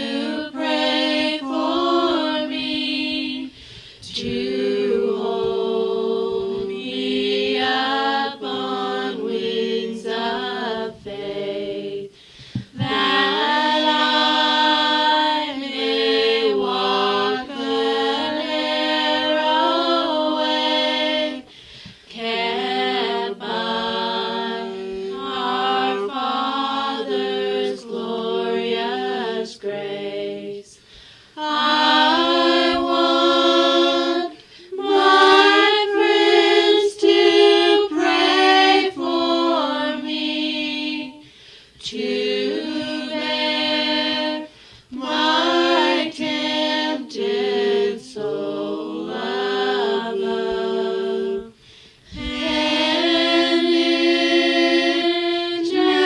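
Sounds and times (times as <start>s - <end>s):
a cappella group singing a hymn: 0.0s - 56.0s.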